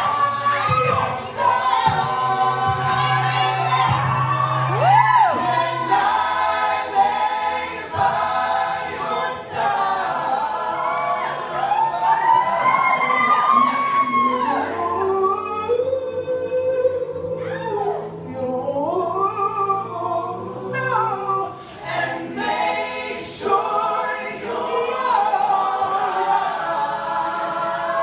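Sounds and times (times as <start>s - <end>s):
low held bass notes: 0.0s - 11.8s, 13.6s - 28.0s
a cappella group harmonies: 0.0s - 28.0s.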